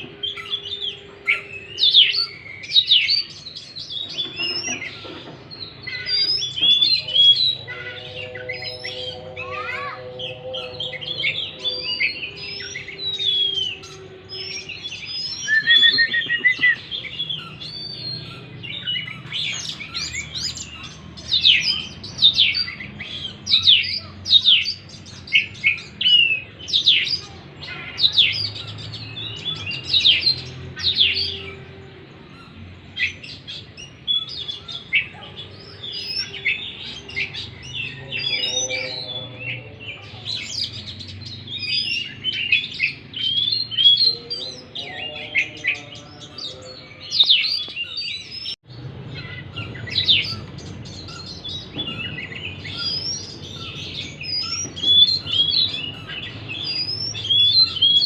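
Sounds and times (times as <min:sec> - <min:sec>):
bird whistling song: 0:00.0 - 0:31.7, 0:32.3 - 0:58.0.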